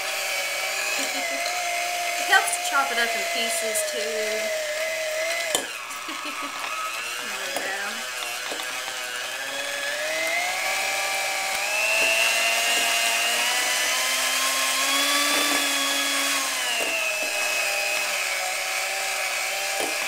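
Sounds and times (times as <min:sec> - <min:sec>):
electric hand mixer whine: 0:00.0 - 0:20.0.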